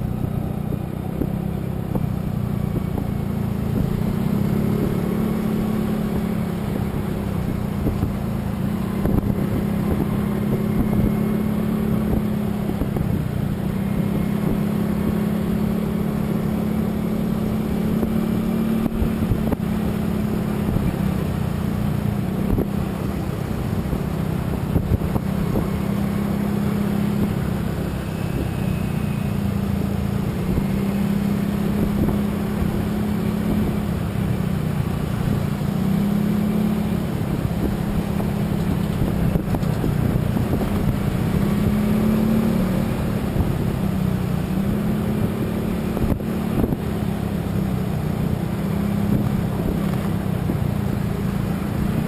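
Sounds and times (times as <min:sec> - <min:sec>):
road and wind noise: 0:00.0 - 0:52.0
vehicle engine hum: 0:00.0 - 0:52.0.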